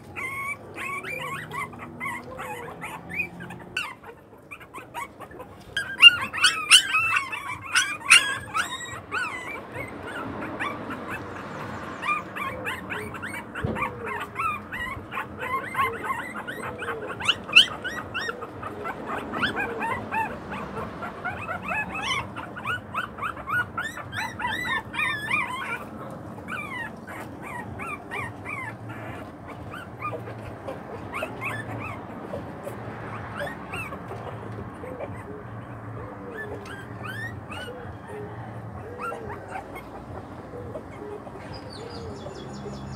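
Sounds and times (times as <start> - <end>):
puppies whimpering and squeaking: 0.0 - 42.9.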